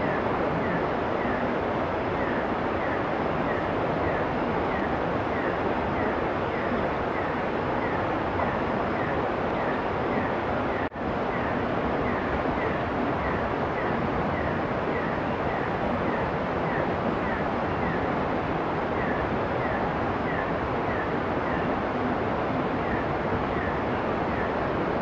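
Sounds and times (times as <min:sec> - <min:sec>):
forest night rushing noise: 0:00.0 - 0:25.0.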